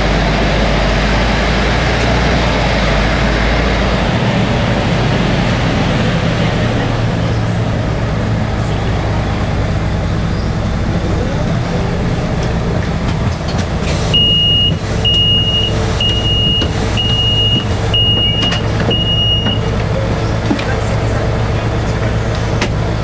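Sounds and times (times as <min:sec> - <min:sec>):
engine low hum: 0:00.0 - 0:23.0.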